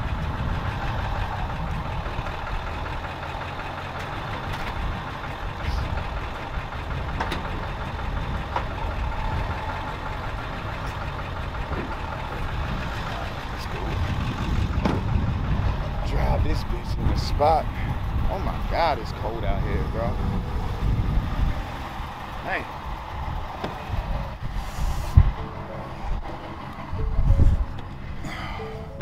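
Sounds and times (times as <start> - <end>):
pickup truck engine idling: 0.0 - 29.0.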